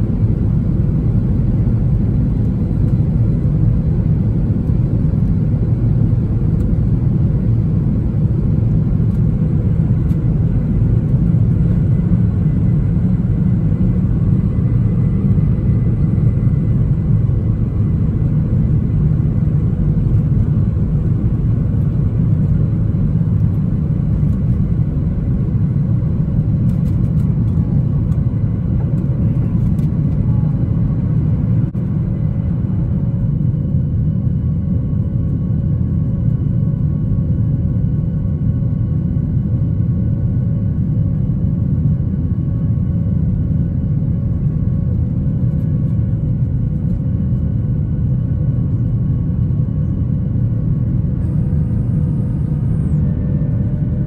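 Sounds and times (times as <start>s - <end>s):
jet engines at takeoff thrust: 0.0s - 54.0s.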